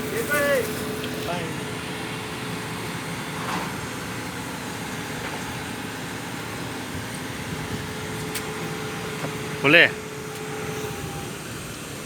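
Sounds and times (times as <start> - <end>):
large machine engine running: 0.0 - 12.0.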